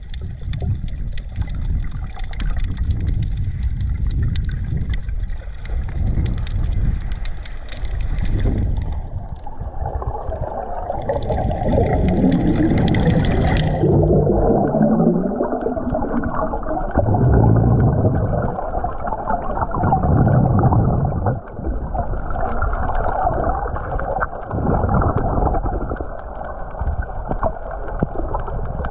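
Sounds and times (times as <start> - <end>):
bubbling bursts: 0.0 - 28.9
underwater rumble and gurgling: 0.0 - 28.9.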